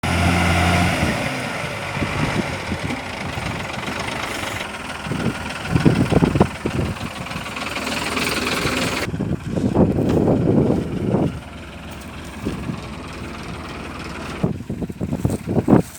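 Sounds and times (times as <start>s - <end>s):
diesel truck engine idling: 0.0s - 15.9s.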